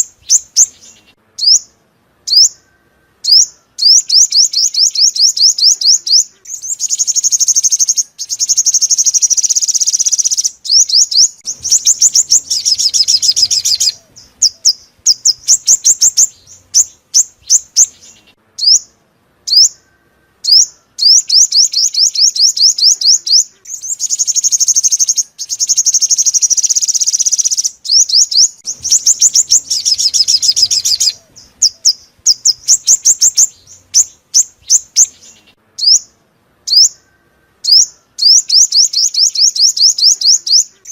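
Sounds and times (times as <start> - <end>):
sunbird song with trills and chirps: 0.0 - 40.9.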